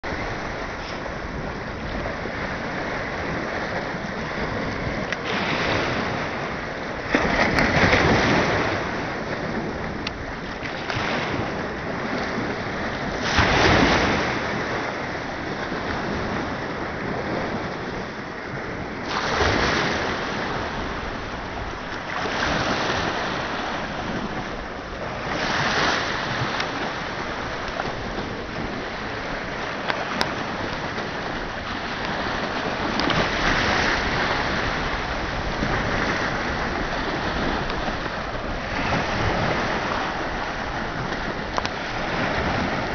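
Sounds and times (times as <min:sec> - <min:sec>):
waves splashing against rocks: 0:00.0 - 0:42.9
wind on microphone: 0:00.0 - 0:42.9.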